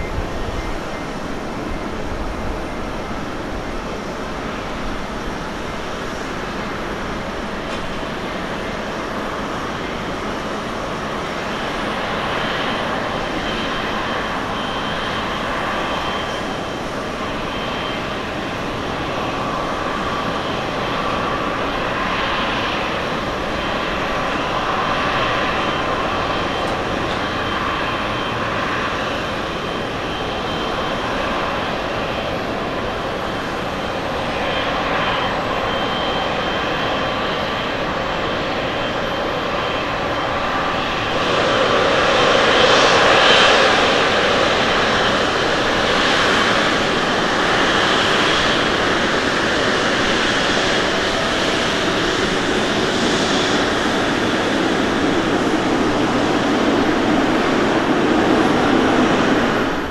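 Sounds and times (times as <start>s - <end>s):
jet engines whining at taxi power: 0.0s - 59.9s.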